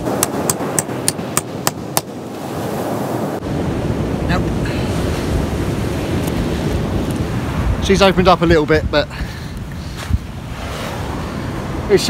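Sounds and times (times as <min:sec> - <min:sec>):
wind: 0:00.0 - 0:12.0
surf: 0:02.3 - 0:12.0.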